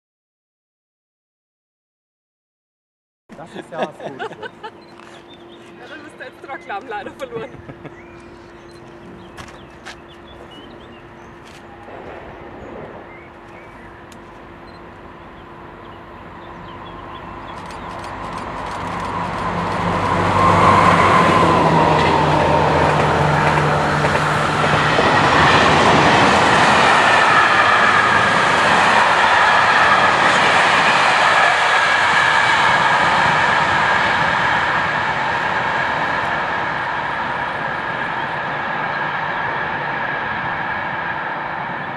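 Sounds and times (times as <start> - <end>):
high steady whine: 3.3 - 41.9
train wheels rushing: 3.4 - 41.9.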